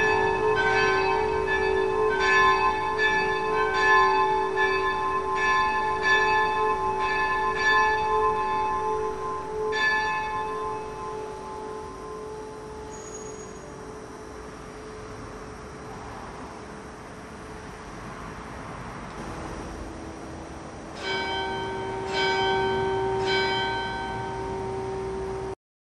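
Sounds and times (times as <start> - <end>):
church bell ringing: 0.0 - 15.0, 19.2 - 25.6.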